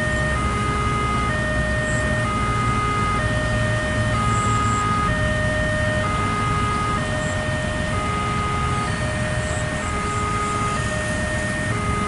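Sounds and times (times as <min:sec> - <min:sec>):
two-tone crossing alarm: 0:00.0 - 0:12.0.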